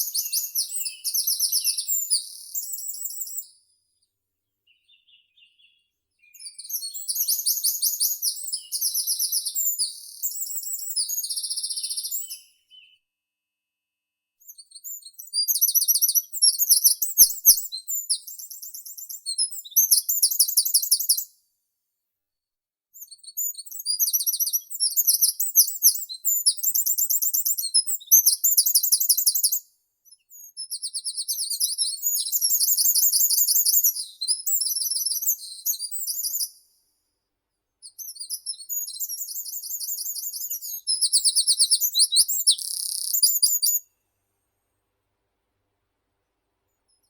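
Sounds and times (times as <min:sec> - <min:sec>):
songbird singing high-pitched notes: 0:00.0 - 0:03.7, 0:04.7 - 0:13.1, 0:14.4 - 0:21.3, 0:23.0 - 0:36.7, 0:37.8 - 0:44.0.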